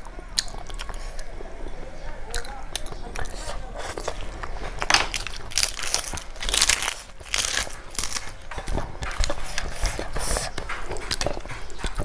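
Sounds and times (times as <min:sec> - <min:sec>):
food crunching and crackling: 0:00.0 - 0:12.0.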